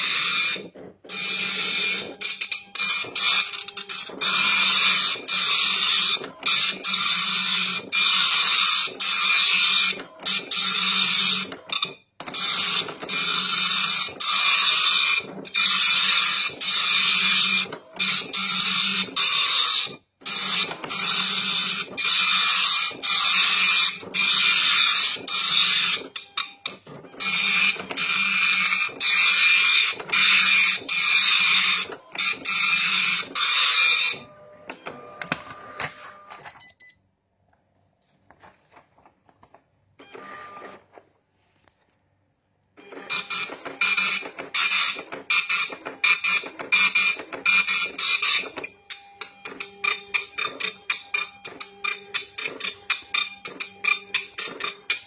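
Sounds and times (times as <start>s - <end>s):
dot-matrix printer printing: 0.0s - 36.7s, 39.4s - 41.1s, 42.8s - 55.0s.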